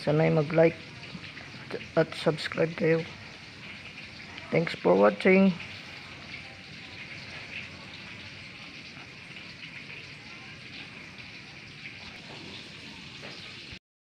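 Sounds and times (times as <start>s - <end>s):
oil sizzling in a pan: 0.0s - 13.8s.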